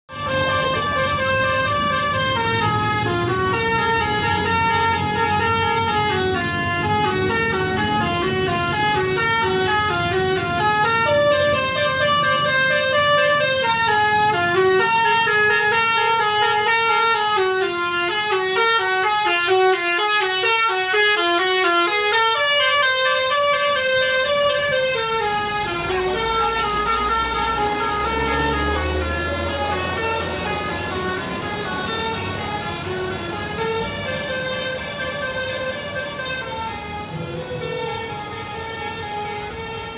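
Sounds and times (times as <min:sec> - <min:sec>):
multi-tone bus horn melody: 0:00.1 - 0:39.9.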